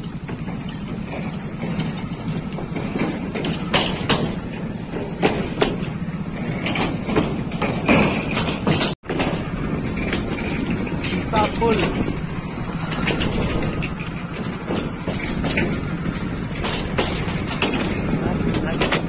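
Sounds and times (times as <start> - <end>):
loose wooden planks clattering: 0.0 - 19.0
motorcycle engine hum: 0.0 - 19.0.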